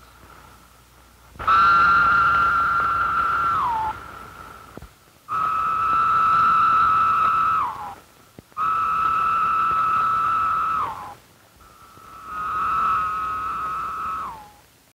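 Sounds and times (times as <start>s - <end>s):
cicada drone dropping in pitch: 1.4s - 8.0s, 8.6s - 14.6s.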